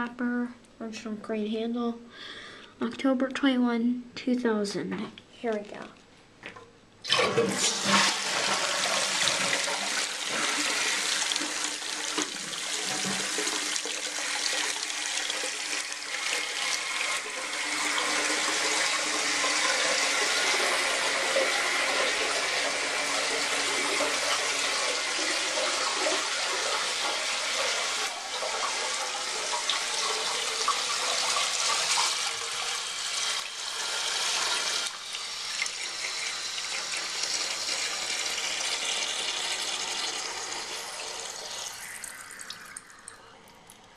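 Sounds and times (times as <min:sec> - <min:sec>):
toilet flushing: 0:07.0 - 0:43.8.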